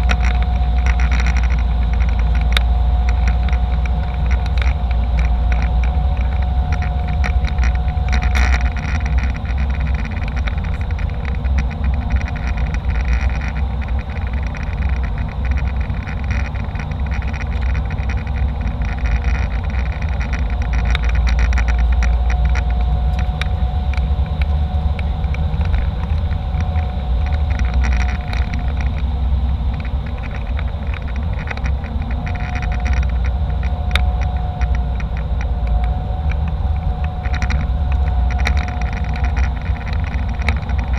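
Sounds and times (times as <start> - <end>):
constant mid-pitched tone: 0.0 - 40.9
jet engine and airflow rumble: 0.0 - 40.9
small clicks and rattles: 0.0 - 40.9.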